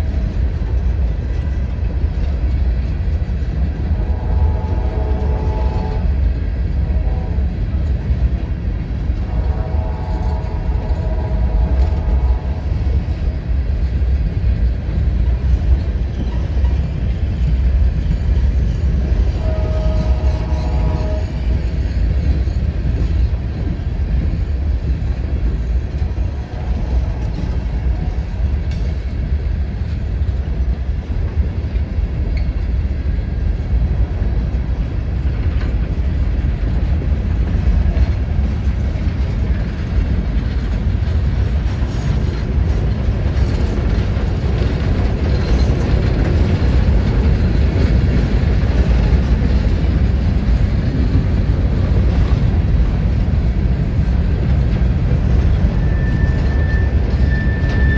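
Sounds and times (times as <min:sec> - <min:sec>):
freight train rumbling: 0:00.0 - 0:57.9
wheels clacking over rail joints: 0:00.0 - 0:57.9.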